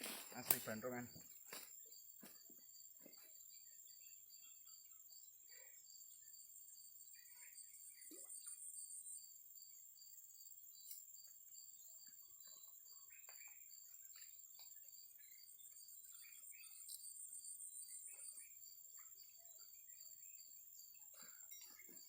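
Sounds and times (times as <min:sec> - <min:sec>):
crickets chirping: 0:00.0 - 0:22.0
insect trill: 0:00.0 - 0:22.0.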